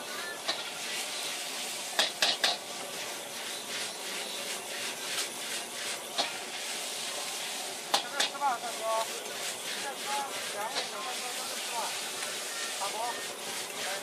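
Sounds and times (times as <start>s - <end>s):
noodles sizzling in a wok: 0.0s - 14.0s.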